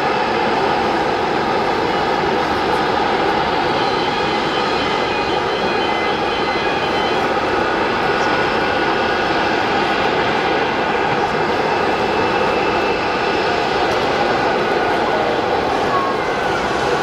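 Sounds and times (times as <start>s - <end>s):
jet engines taxiing: 0.0s - 17.0s.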